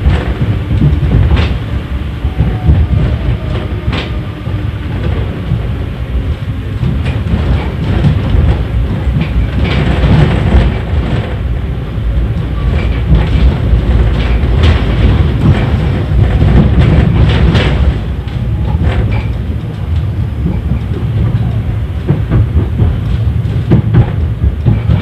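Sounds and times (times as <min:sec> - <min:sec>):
tram wheels rumbling on rails: 0:00.0 - 0:25.0
wheels clacking over rail joints: 0:00.0 - 0:25.0.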